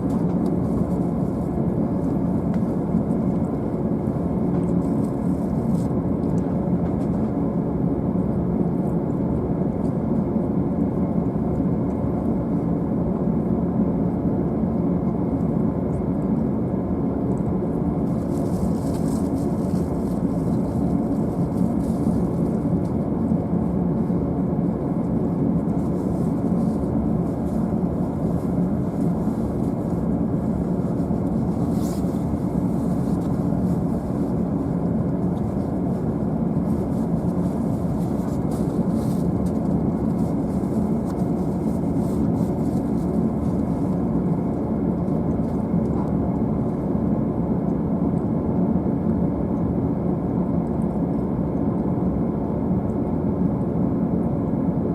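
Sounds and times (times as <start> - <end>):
steady low hum in train car: 0.0 - 54.9.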